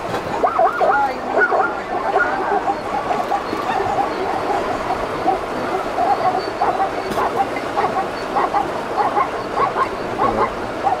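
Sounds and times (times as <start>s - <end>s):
zebras barking yelps: 0.3s - 11.0s.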